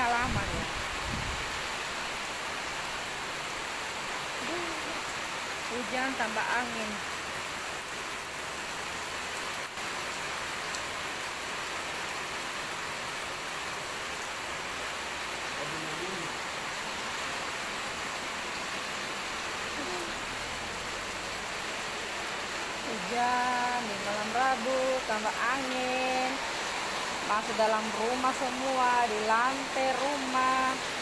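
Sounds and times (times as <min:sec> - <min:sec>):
heavy rain pouring: 0:00.0 - 0:31.0
wind: 0:00.0 - 0:31.0.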